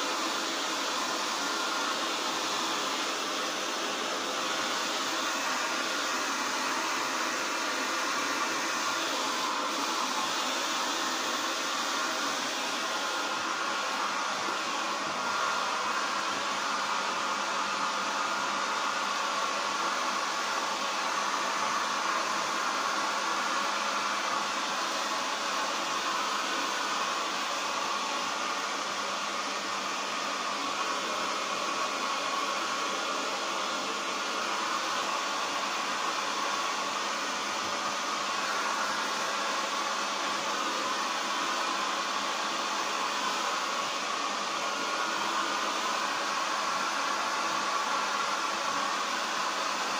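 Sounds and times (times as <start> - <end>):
hair dryer running: 0.0 - 49.9.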